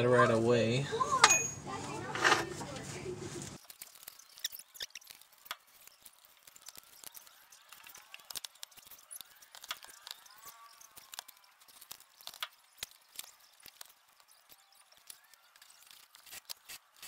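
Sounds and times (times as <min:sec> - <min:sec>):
faint squeaks: 0:00.8 - 0:16.9.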